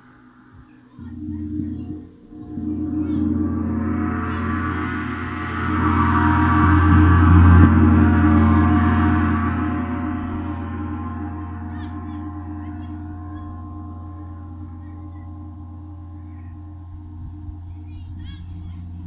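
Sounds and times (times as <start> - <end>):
large gong ringing: 0.0 - 19.0.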